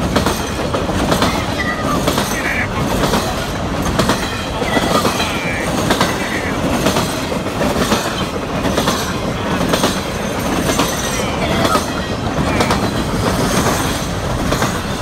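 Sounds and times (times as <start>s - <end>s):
train wheels rumbling on rail: 0.0s - 15.0s
wheels clacking over rail joints: 0.0s - 15.0s.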